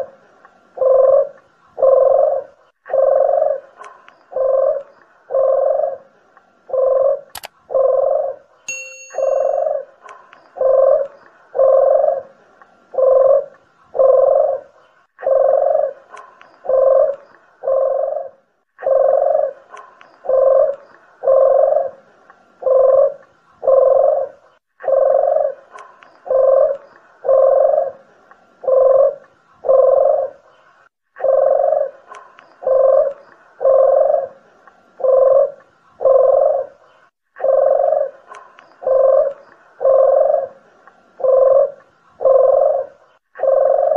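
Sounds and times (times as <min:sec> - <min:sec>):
doves cooing: 0:00.0 - 0:08.6, 0:09.5 - 0:43.9.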